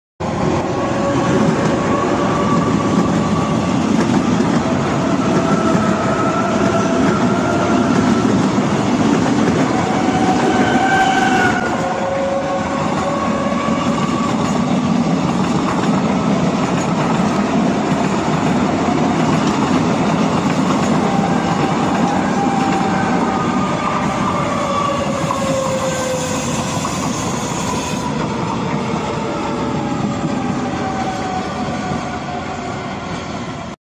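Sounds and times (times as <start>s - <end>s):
train wheels clickety-clack: 1.2s - 11.9s, 12.7s - 32.2s.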